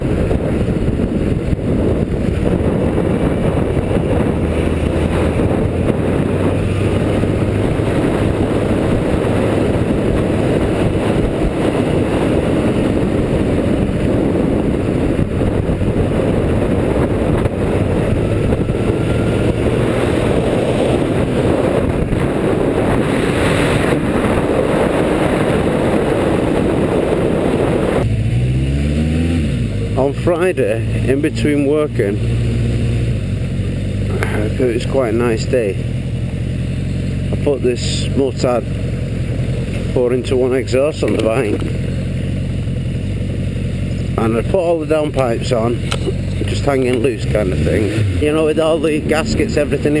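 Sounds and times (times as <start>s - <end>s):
motorcycle engine rumble: 0.0s - 50.0s
road and wind noise: 0.0s - 50.0s.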